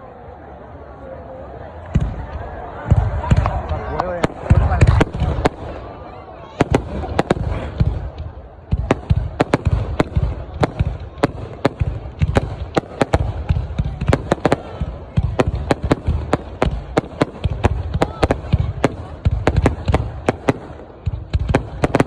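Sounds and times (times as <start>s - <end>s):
fireworks bangs: 1.8s - 22.0s.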